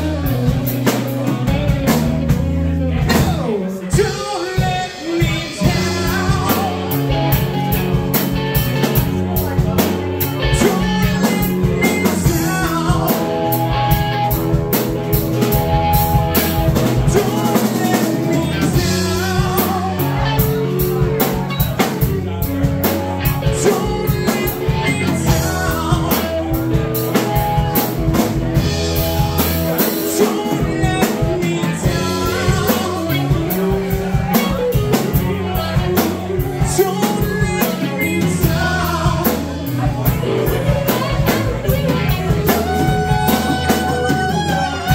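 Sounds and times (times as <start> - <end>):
drum kit: 0.0 - 44.9
electric bass guitar: 0.0 - 44.9
electric guitar: 0.0 - 44.9.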